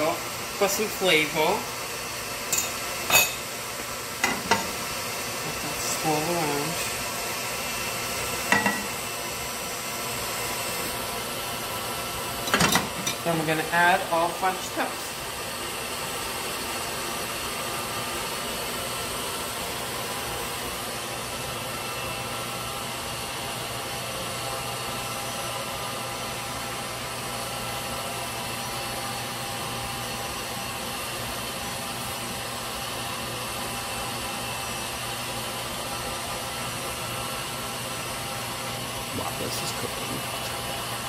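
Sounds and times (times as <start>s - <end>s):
electric mixer whirring: 0.0s - 41.0s.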